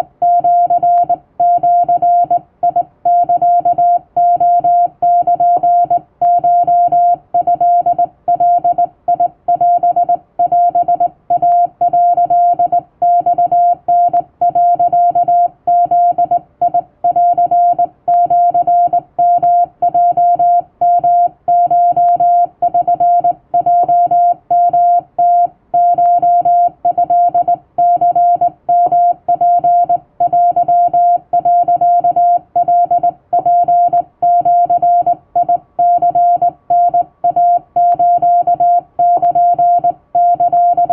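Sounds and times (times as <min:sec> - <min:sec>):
morse code beeps: 0:00.2 - 0:40.9.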